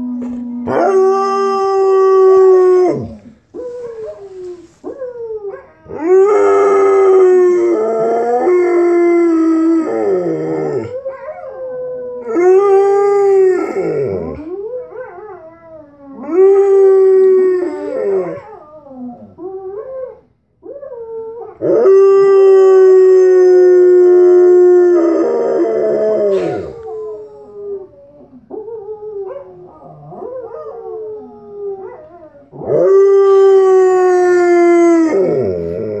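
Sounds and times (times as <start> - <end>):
dog howling: 0.0 - 36.0
dog howling on tv: 0.0 - 36.0.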